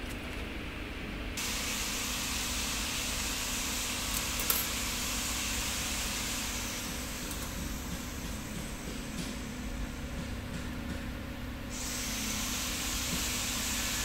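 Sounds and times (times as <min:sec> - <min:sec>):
machine hissing and humming: 0:01.3 - 0:14.0.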